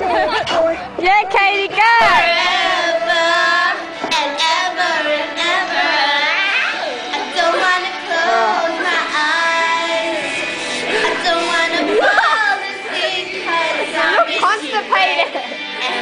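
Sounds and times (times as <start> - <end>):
girl singing: 2.0 - 16.0.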